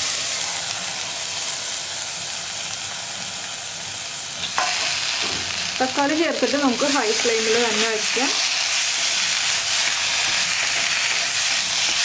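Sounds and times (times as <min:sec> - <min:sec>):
tomatoes sizzling in hot oil: 0:00.0 - 0:12.0.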